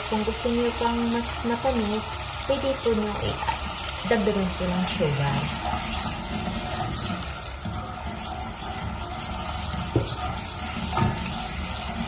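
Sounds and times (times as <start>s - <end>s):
wooden spoon stirring in a pot: 0.0s - 12.0s.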